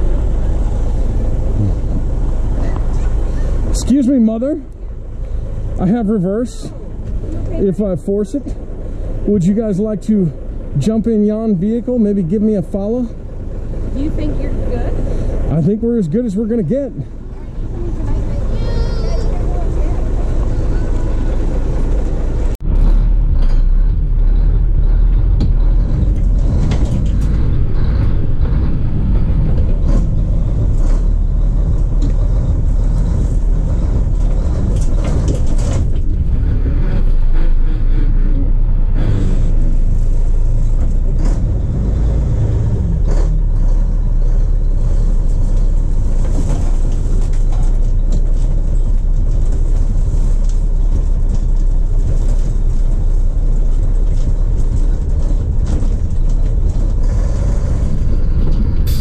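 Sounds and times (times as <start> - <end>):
diesel truck engine rumble: 0.0 - 59.0.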